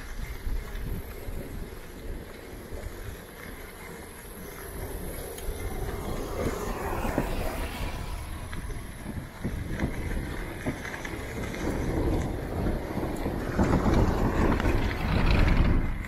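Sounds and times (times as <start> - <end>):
wind and rolling bicycle tyres: 0.0 - 16.0.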